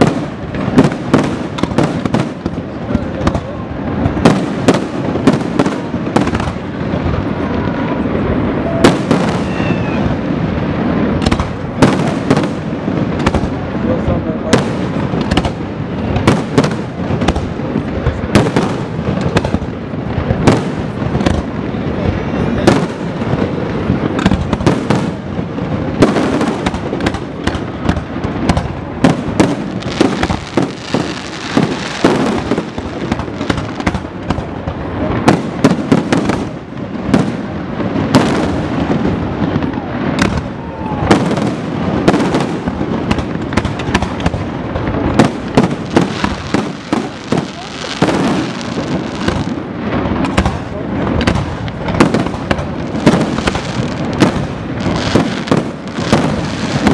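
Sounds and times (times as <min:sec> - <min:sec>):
crackling rumble of fireworks: 0:00.0 - 0:56.9.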